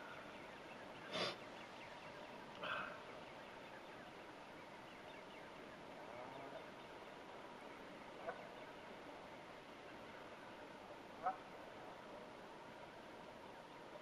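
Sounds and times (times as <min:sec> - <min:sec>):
faint outdoor background: 0:00.0 - 0:14.0.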